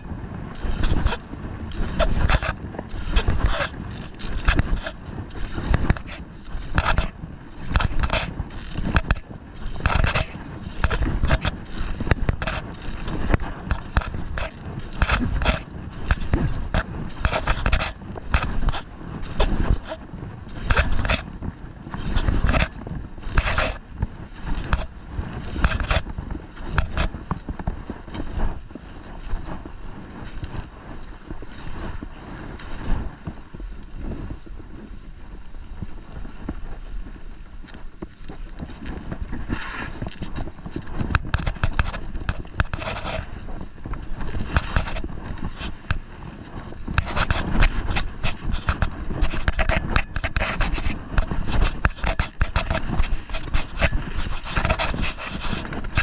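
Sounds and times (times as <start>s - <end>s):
skis scraping over packed snow: 0.0s - 56.0s
wind buffeting microphone: 0.0s - 56.0s.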